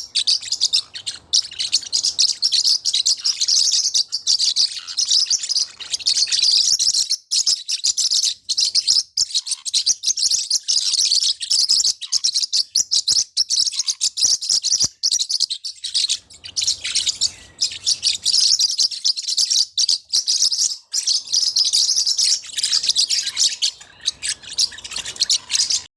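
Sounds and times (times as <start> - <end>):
parrotlets chirping: 0.0 - 25.9.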